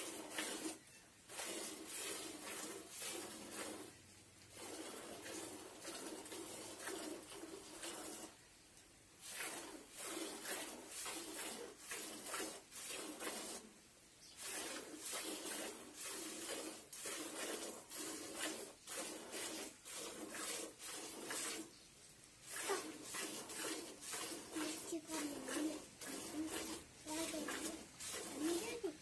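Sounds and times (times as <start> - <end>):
milk squirting into a pail: 0.0 - 8.4, 9.1 - 29.0.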